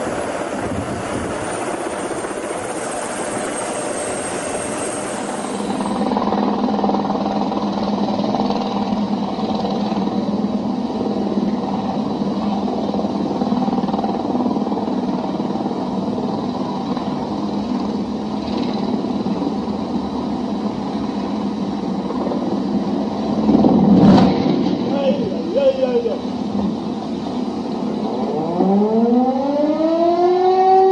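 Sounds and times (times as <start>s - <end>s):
light airplane engine running: 0.0s - 30.9s.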